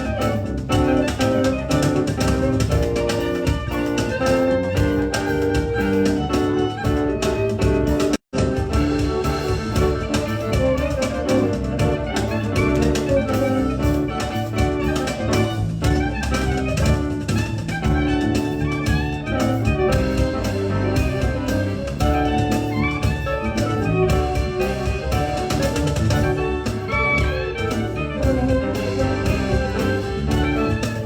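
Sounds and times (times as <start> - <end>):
drums: 0.0 - 31.0
live band music: 0.0 - 31.0.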